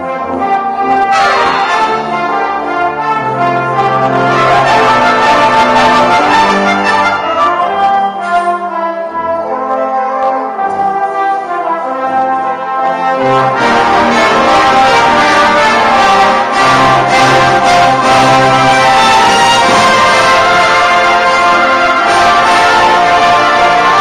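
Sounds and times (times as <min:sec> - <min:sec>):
brass band playing: 0:00.0 - 0:24.0.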